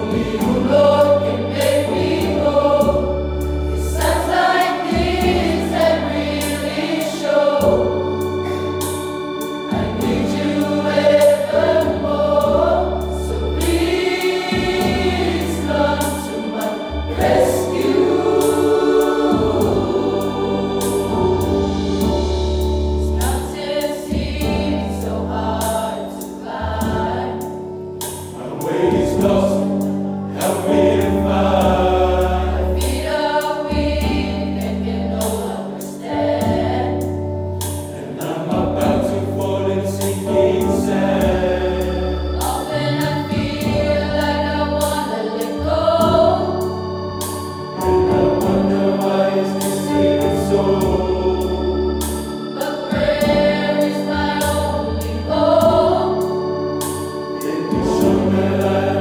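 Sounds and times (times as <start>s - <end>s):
choir singing gospel: 0.0s - 59.0s
sustained low accompaniment notes: 0.0s - 59.0s.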